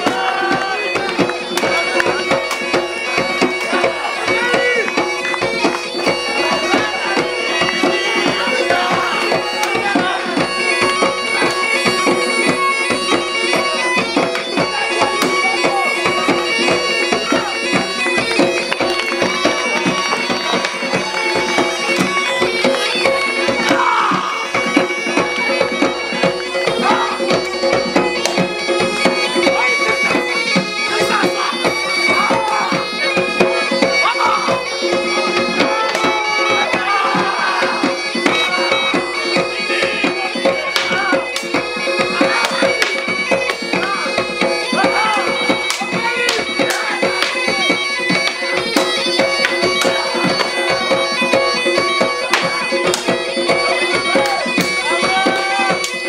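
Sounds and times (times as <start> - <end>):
drum beating fast rhythm: 0.0 - 56.0
reedy wind instrument melody: 0.0 - 56.0.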